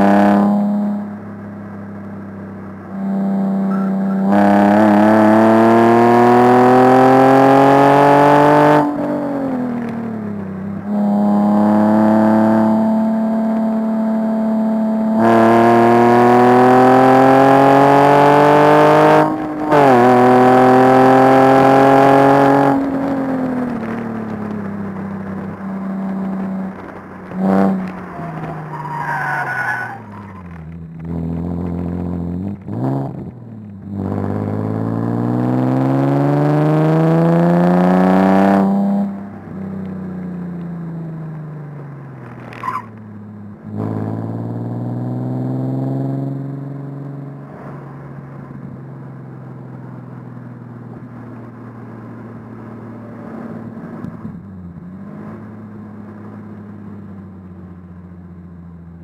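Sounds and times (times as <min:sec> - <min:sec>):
car engine heard from cabin: 0:00.0 - 0:59.0.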